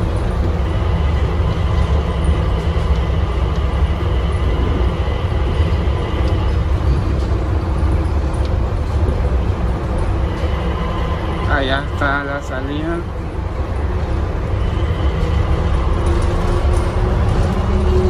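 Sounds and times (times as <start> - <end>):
faint train whine: 0.0 - 18.0
train rumbling in a tunnel: 0.0 - 18.0.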